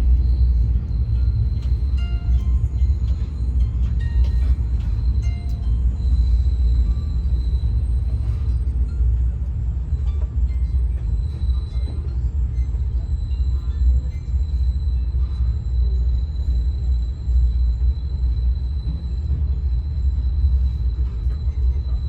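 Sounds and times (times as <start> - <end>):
faint high whine: 0.0 - 22.0
train rumbling on track: 0.0 - 22.0.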